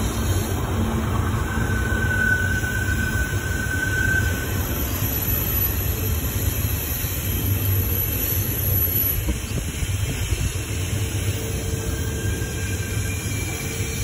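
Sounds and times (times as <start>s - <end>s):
high wheel squeal: 0.0s - 14.0s
steel wheels rumbling on rail: 0.0s - 14.0s.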